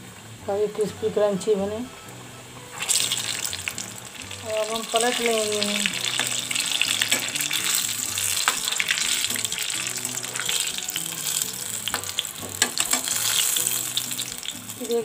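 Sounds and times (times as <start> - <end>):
food sizzling in hot oil: 2.6 - 15.0
metal ladle turning food: 2.7 - 14.9.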